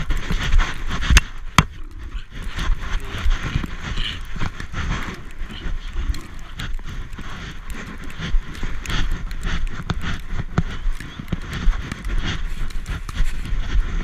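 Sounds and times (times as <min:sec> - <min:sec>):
fur and snow rustling on camera: 0:00.0 - 0:14.0.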